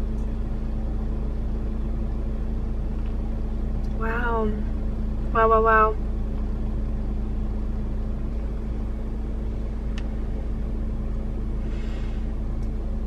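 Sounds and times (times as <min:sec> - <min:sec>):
car idling hum: 0:00.0 - 0:13.0.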